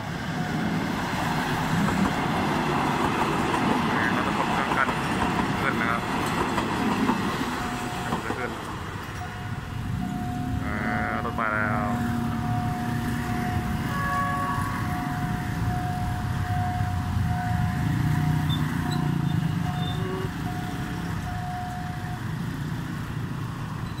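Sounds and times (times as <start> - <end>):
car engines running: 0.0 - 24.0.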